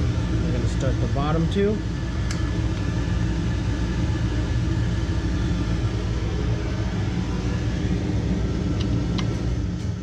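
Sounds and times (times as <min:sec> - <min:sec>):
machinery rumble and hum: 0:00.0 - 0:10.0.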